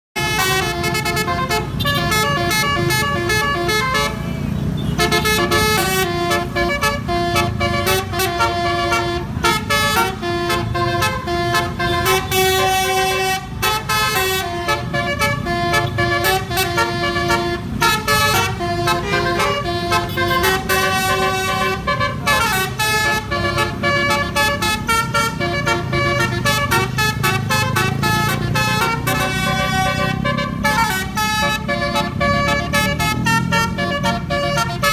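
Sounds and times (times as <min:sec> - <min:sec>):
musical bus horn playing tune: 0:00.2 - 0:34.9.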